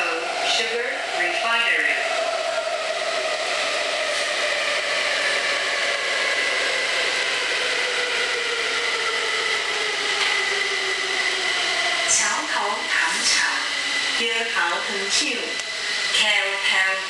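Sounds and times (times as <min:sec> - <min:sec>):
train rumble and hiss: 0:00.0 - 0:17.0
train motor whine: 0:01.7 - 0:17.0.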